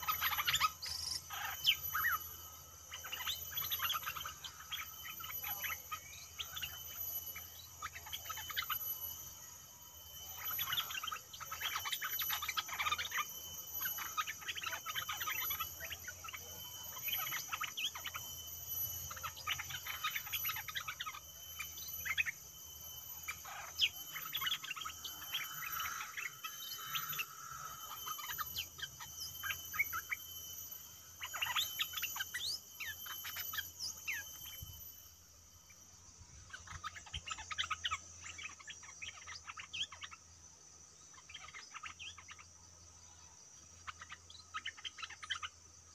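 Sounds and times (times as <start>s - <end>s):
birds chirping: 0.0s - 45.9s
high insect whine: 0.0s - 45.9s.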